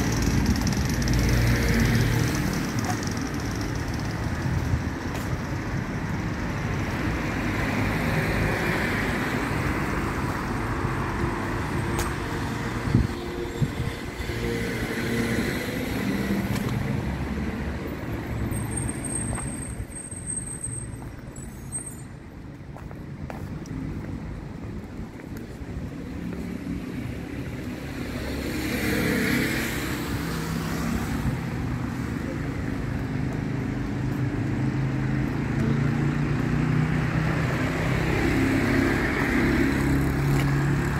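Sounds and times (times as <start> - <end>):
motorbikes and cars passing: 0.0 - 20.0, 22.4 - 40.9.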